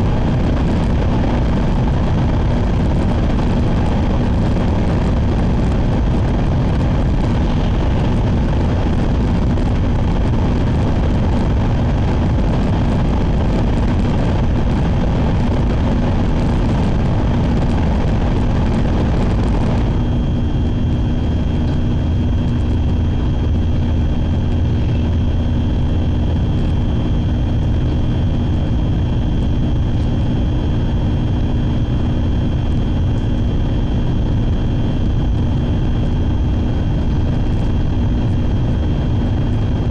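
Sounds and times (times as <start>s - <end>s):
train rumble inside passenger car: 0.0s - 20.3s, 21.1s - 39.9s
steady hum: 0.0s - 39.9s.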